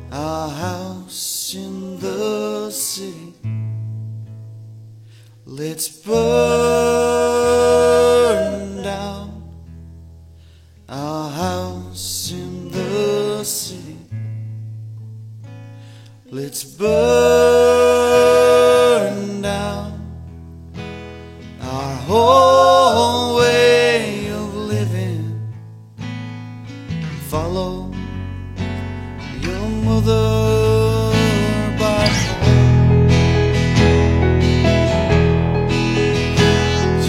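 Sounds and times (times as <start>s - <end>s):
bass: 0.0s - 1.2s, 3.4s - 37.0s
acoustic guitar: 0.0s - 37.0s.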